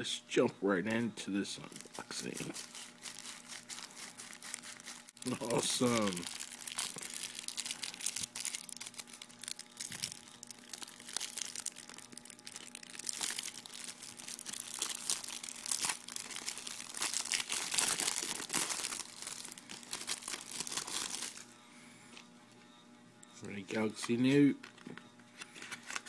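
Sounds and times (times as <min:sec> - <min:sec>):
plastic packaging crinkling: 0:01.6 - 0:21.5, 0:23.9 - 0:26.0.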